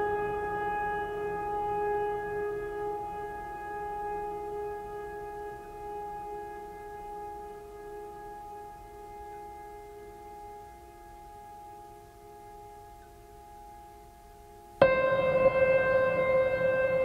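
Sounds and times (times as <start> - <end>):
ambient drone music: 0.0 - 17.0.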